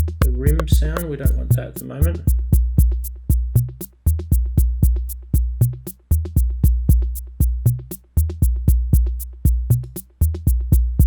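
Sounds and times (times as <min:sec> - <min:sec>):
drum machine kicks: 0:00.0 - 0:11.0
high hat and maraca ticks: 0:00.0 - 0:11.0.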